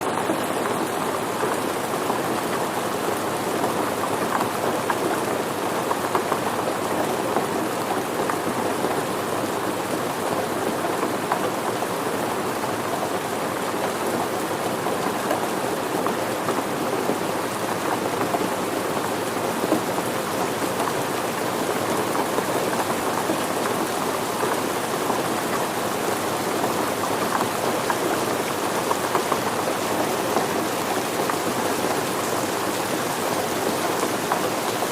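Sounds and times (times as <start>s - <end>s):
rain pattering on surfaces: 0.0s - 34.9s.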